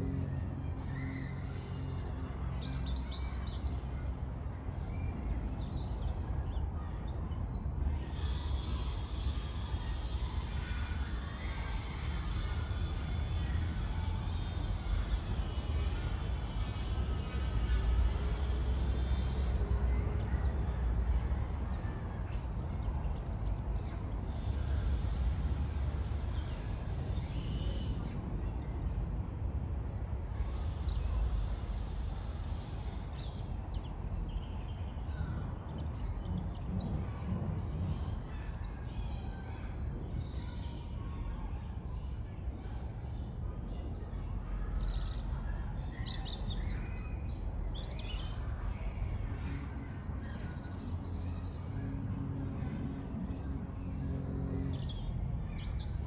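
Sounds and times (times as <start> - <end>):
distant traffic rumble: 8.0 - 56.0.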